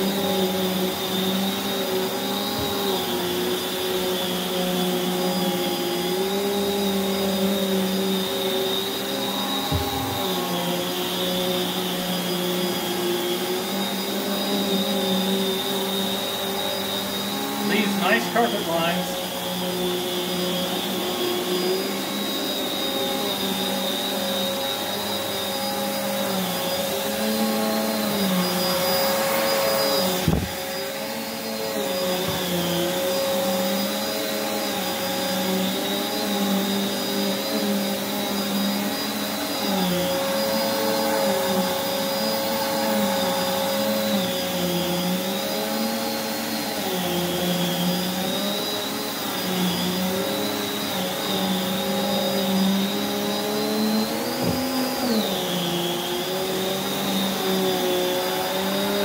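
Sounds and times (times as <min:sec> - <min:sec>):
vacuum cleaner whine: 0:00.0 - 0:59.0.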